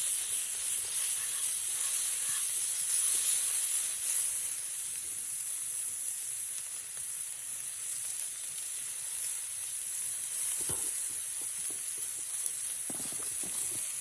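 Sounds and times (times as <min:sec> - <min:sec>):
meat sizzling on a griddle: 0:00.0 - 0:14.0.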